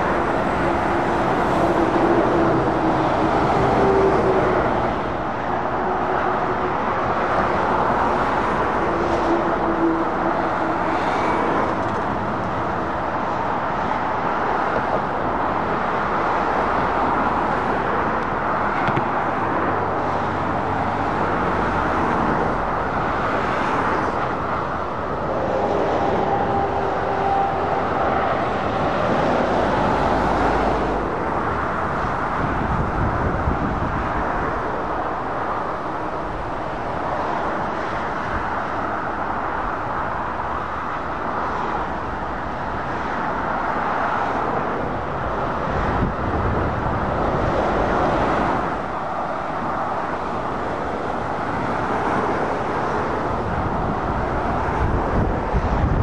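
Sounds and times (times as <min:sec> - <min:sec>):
lorries and cars passing: 0:00.0 - 0:56.0.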